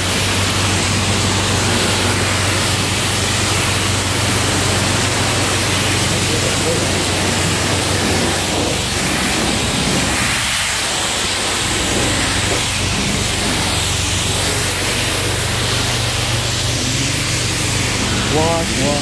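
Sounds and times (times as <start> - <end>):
high-pressure water spray hissing: 0.0 - 19.0.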